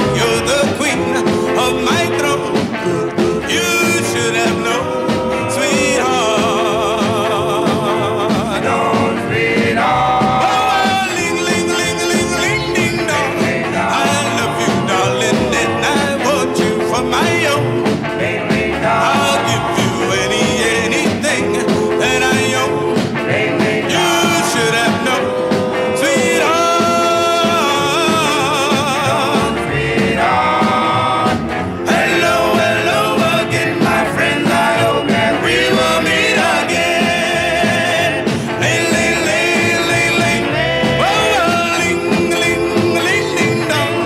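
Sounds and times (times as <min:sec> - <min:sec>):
rhythm and blues band: 0:00.0 - 0:44.0
vocal group singing harmonies: 0:00.0 - 0:44.0.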